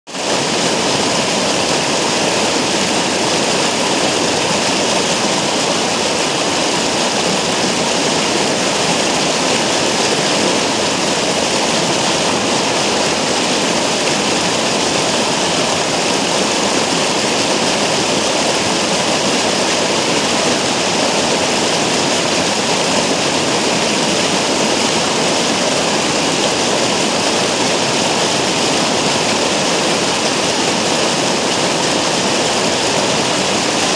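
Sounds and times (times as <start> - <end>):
stream rushing over rock: 0.1 - 33.9.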